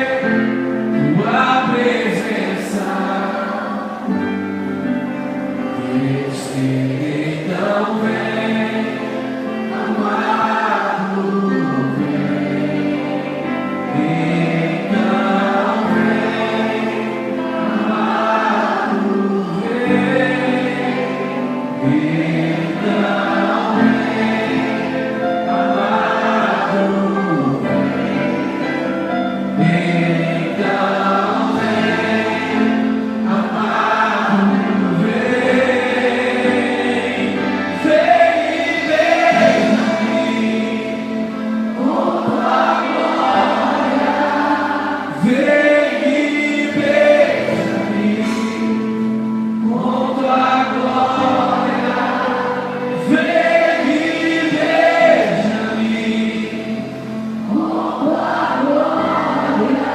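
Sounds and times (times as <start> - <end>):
group of voices singing: 0.0 - 59.9
sustained instrumental backing: 0.0 - 59.9.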